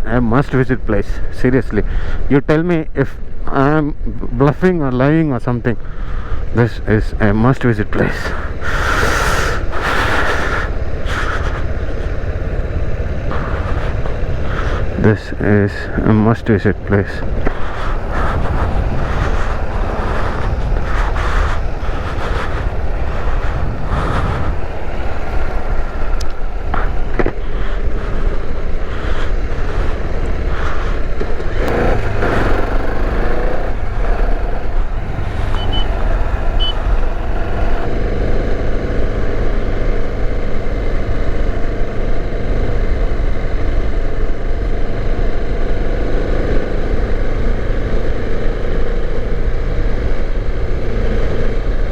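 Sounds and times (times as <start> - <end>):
wind rushing on microphone: 5.8 - 51.9
motorcycle engine running: 5.9 - 51.9.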